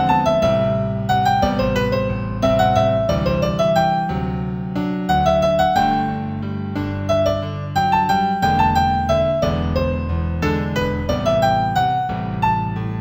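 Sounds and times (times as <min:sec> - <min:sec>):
slow gentle piano melody: 0:00.0 - 0:13.0.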